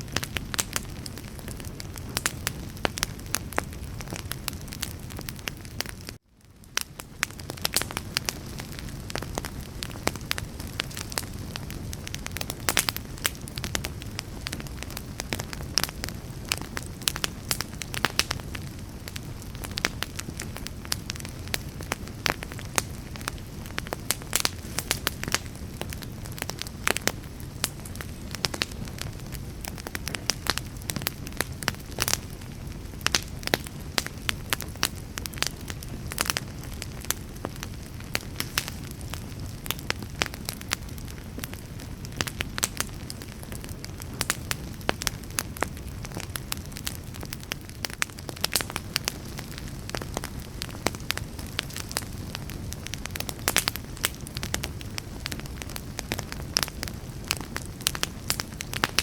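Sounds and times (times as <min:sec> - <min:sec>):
fire crackles and pops: 0:00.0 - 0:59.0
wood fire burning: 0:00.0 - 0:59.0.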